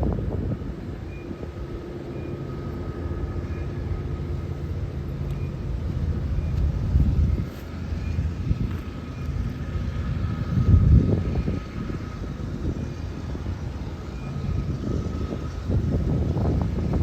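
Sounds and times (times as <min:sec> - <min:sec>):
freight train rumbling by: 0:00.0 - 0:17.0.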